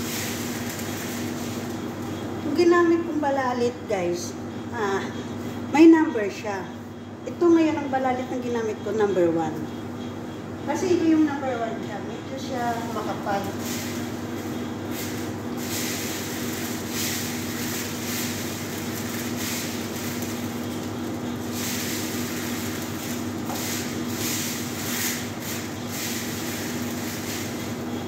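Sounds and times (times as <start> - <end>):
gas burner hissing: 0.0 - 6.6, 9.8 - 28.0
extractor fan humming: 0.0 - 28.0.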